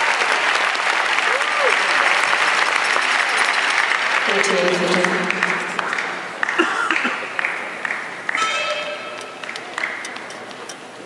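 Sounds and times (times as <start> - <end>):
crowd applause: 0.0 - 11.0
crowd voices: 0.0 - 11.0.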